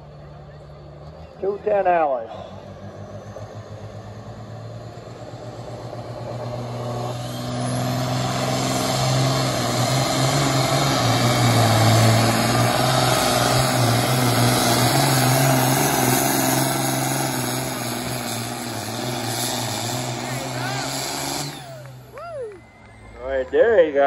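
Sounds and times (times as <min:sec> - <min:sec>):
diesel tractor pulling under load: 0:00.0 - 0:24.0.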